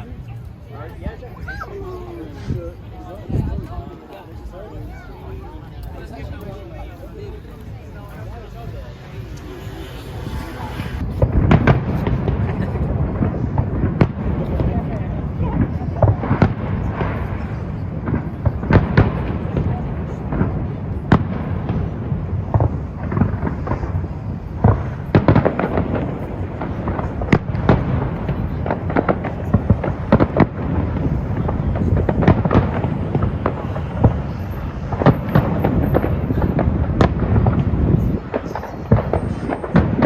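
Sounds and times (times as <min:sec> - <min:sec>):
firework bursts and crackling bangs: 0:00.0 - 0:40.0
low rumble of explosions: 0:02.3 - 0:40.0.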